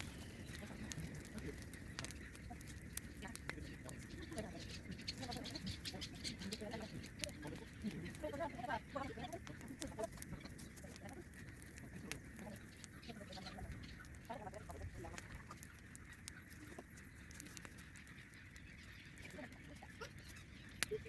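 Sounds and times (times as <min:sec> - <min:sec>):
faint bird calls: 0:00.0 - 0:21.0.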